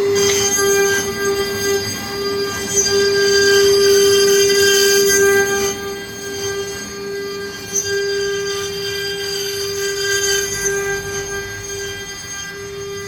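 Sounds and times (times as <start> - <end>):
router bit cutting wood: 0.0 - 13.0
router spindle whine: 0.0 - 13.0.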